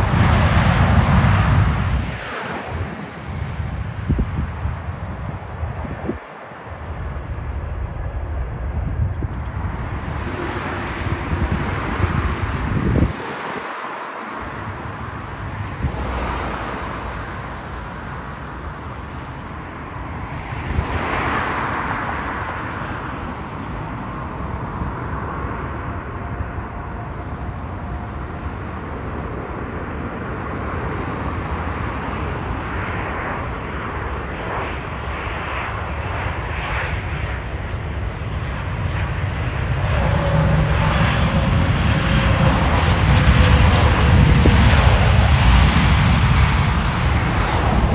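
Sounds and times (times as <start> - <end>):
jet airliner landing: 0.0 - 47.9.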